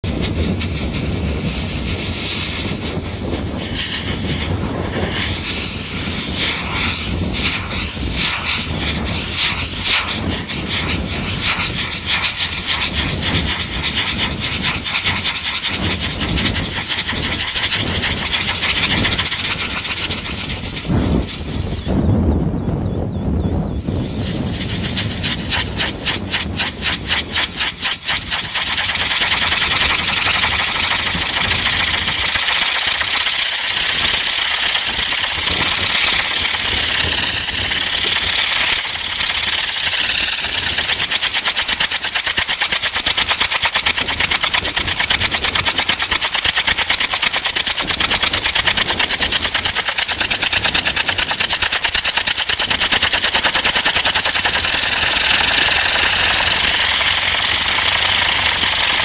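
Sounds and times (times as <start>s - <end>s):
rocket engines whooshing and hissing: 0.0s - 22.7s, 23.6s - 59.0s.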